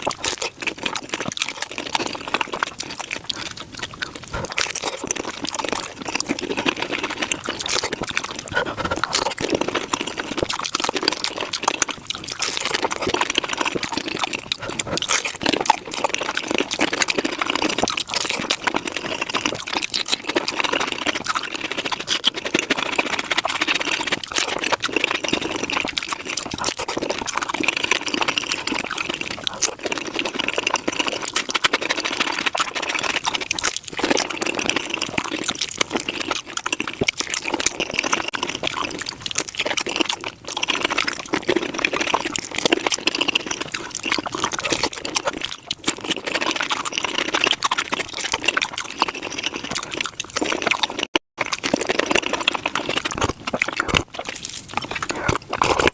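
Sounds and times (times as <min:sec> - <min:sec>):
sped up chewing crackles: 0:00.0 - 0:55.9.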